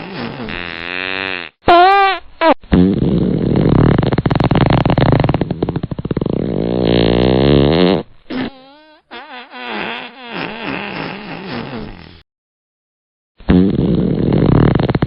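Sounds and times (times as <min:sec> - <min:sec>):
loud buzzing fart: 0:00.0 - 0:01.9, 0:02.7 - 0:12.2, 0:13.5 - 0:15.0
quiet squeaky fart: 0:00.0 - 0:12.2, 0:13.4 - 0:15.0.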